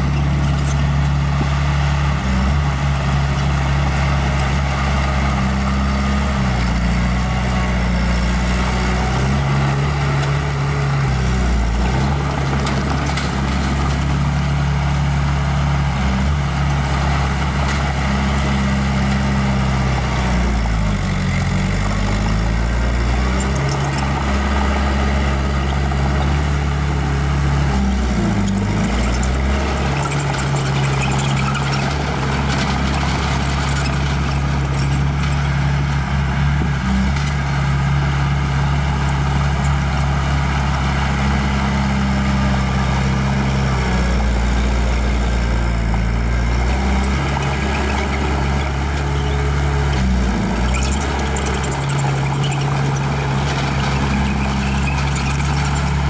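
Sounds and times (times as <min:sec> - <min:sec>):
bulldozer diesel engine pushing rock: 0:00.0 - 0:56.0.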